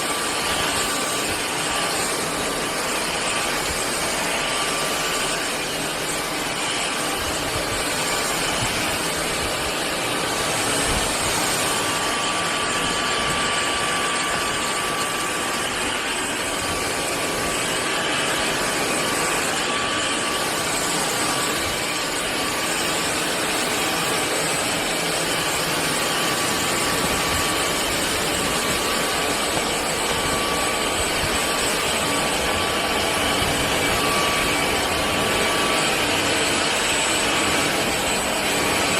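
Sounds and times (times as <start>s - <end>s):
vacuum motor running: 0.0s - 38.9s.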